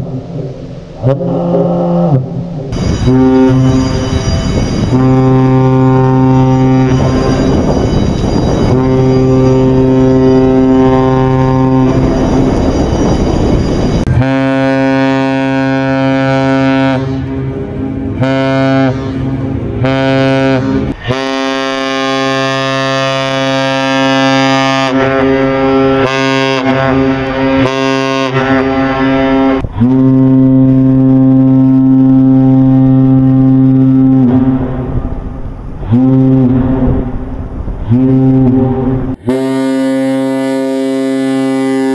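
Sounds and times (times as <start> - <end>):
ship horn blasts: 0.0 - 41.9.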